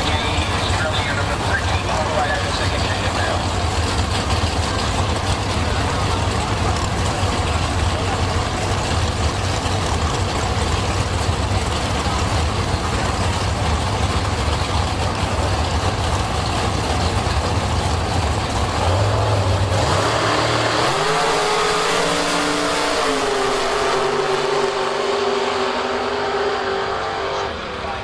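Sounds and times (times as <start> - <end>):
racing car engine rumbling: 0.0 - 28.0.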